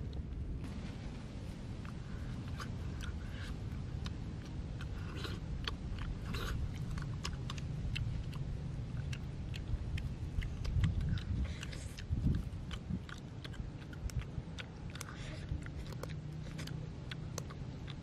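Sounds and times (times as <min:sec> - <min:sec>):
low rumble: 0:00.0 - 0:17.6
biting and chewing: 0:00.0 - 0:18.0.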